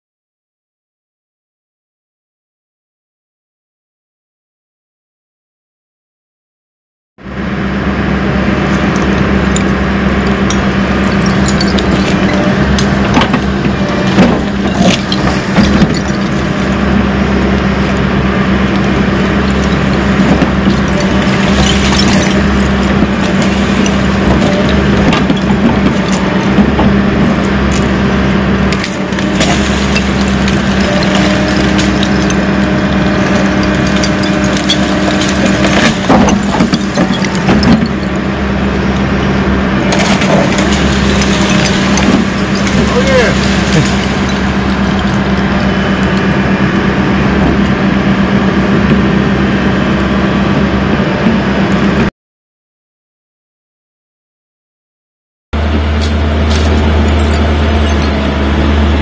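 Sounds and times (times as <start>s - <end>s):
backhoe engine running: 7.2s - 52.1s, 55.6s - 59.0s.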